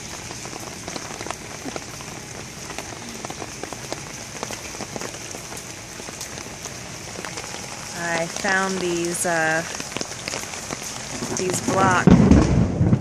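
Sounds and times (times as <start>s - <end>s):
raindrops ticking close by: 0.0s - 13.0s
steady rain falling: 0.0s - 13.0s.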